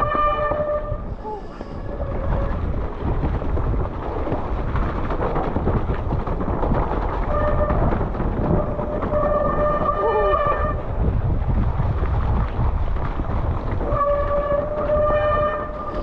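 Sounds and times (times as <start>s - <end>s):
bike tyres rumbling and rattling: 0.0s - 16.0s
wind buffeting microphone: 0.0s - 16.0s.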